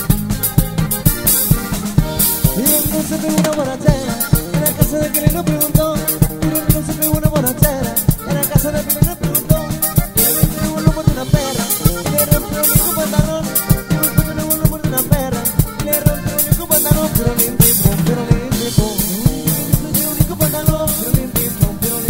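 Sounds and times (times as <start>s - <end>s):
button accordion melody: 0.0s - 22.0s
drum kit steady beat: 0.0s - 22.0s
electric bass: 0.0s - 22.0s
twelve-string guitar: 0.0s - 22.0s.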